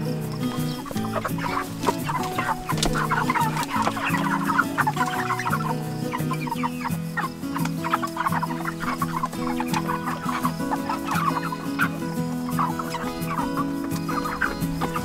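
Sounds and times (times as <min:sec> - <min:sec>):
background music: 0:00.0 - 0:15.0
chickens clucking and cheeping: 0:00.0 - 0:15.0.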